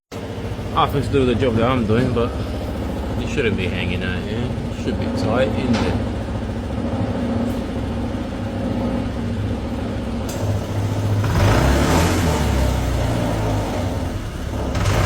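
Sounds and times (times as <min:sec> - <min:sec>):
scooter engine idling and revving: 0:00.1 - 0:15.0.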